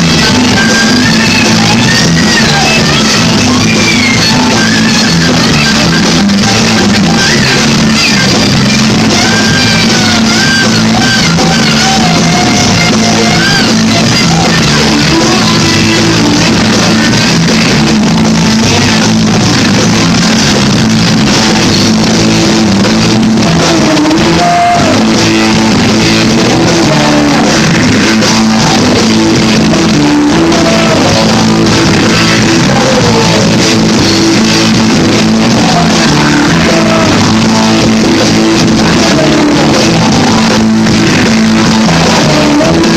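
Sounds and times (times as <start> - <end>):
bending electric guitar lines: 0.0 - 42.9
rock band playing: 0.0 - 42.9.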